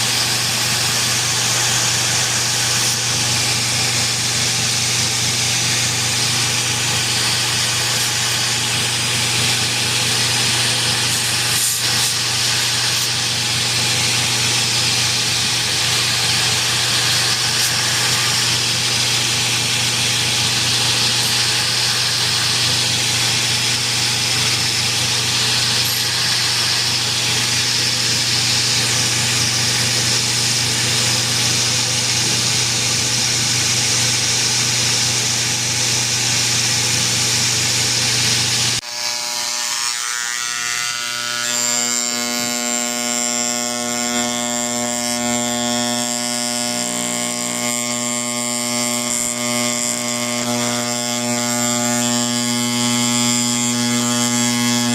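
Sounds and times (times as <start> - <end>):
shop machine hiss and hum: 0.0 - 54.9.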